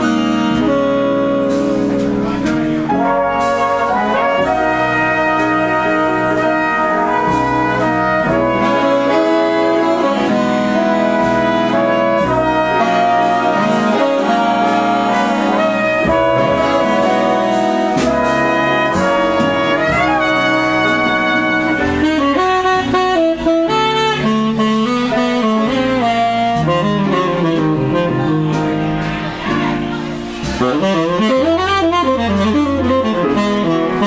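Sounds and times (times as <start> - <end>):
jazz big band horns playing: 0.0 - 34.0.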